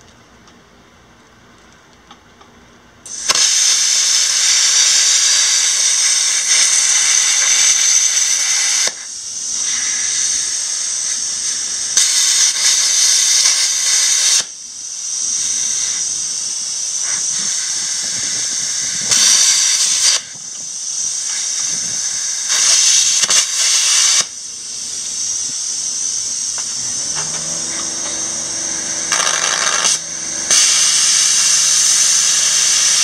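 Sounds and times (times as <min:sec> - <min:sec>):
plasma cutter arc hissing: 0:03.1 - 0:33.0.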